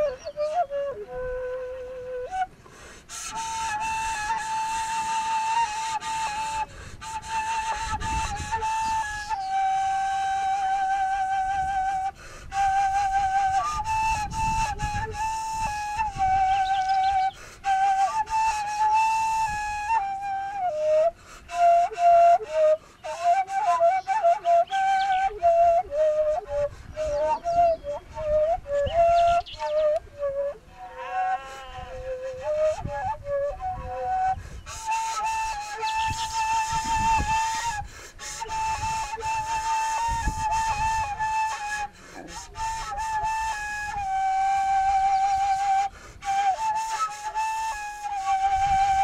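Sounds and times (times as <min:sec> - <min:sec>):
flute-like melody: 0:00.0 - 0:49.0.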